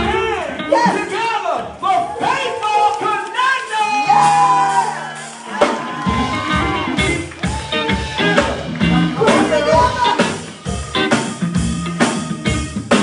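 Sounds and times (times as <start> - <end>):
band playing upbeat music: 0.0 - 13.0
drum kit beat: 0.0 - 13.0
guitar: 0.0 - 13.0.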